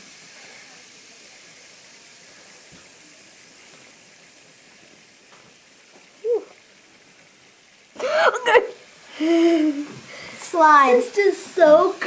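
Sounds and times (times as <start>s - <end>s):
baking soda fizzing: 0.0s - 12.0s.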